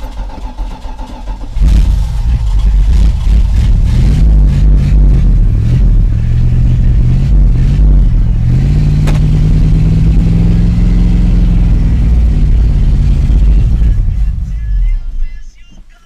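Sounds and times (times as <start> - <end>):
engine running unevenly: 0.0 - 15.6.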